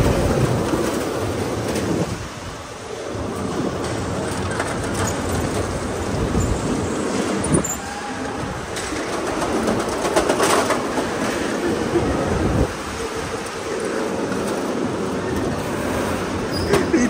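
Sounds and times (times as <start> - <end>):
go-kart wheels rumbling: 0.0 - 17.0.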